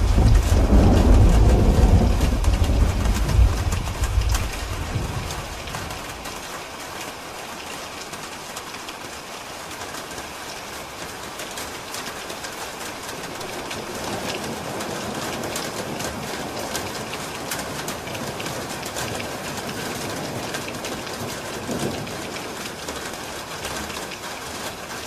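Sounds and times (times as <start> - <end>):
rain on a roof: 0.0 - 25.0
raindrops tapping: 0.0 - 25.0.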